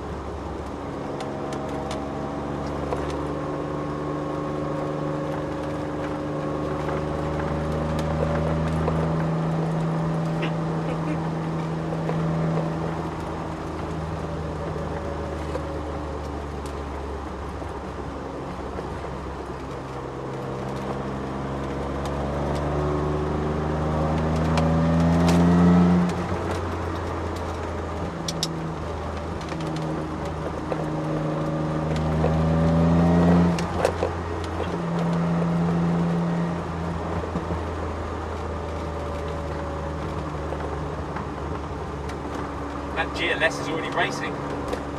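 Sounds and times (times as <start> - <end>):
car engine pulling hard: 0.0 - 44.9.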